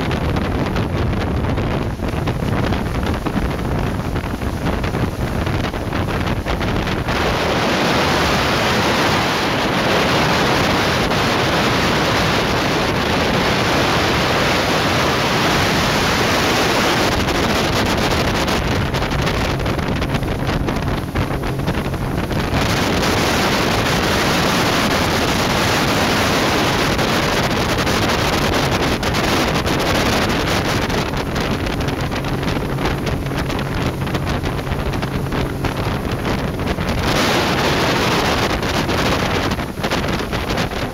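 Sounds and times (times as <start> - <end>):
outboard motor running: 0.0 - 40.9
water rushing past hull: 0.0 - 40.9
wind buffeting microphone: 0.0 - 40.9.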